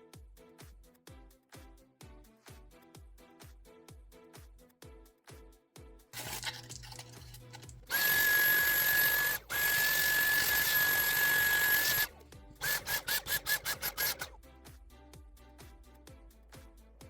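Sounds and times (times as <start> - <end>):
background music with beat: 0.0 - 6.2, 7.2 - 17.0.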